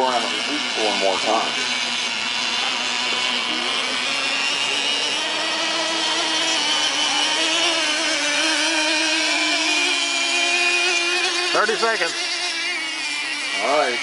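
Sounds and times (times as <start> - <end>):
model boat engines whining: 0.0 - 14.0.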